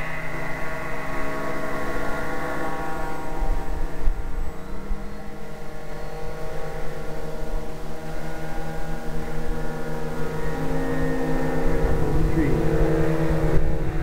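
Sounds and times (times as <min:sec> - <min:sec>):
model engine high-pitched drone: 0:00.0 - 0:14.0.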